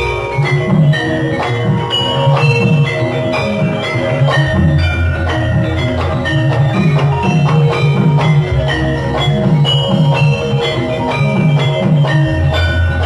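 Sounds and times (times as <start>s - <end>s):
driving drum rhythm: 0.0s - 13.0s
gamelan ensemble playing: 0.0s - 13.0s
struck metal keys and gongs: 0.0s - 13.0s.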